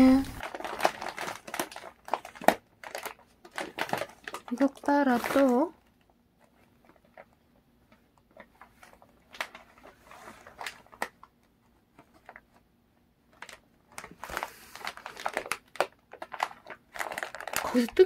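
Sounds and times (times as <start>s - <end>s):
plastic packets crinkling: 0.0s - 7.4s, 8.0s - 12.6s, 13.3s - 18.0s.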